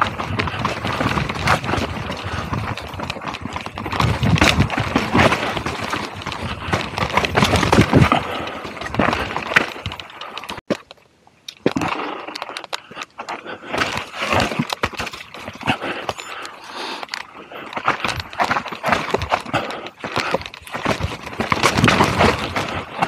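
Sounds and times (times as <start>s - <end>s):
bike tyres grinding over stones: 0.0s - 11.0s, 11.6s - 23.0s
bike rattling and knocking: 0.0s - 23.0s.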